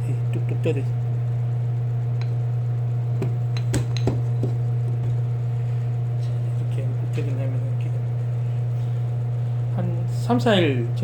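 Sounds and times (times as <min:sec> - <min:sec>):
machine electric hum: 0:00.0 - 0:11.0.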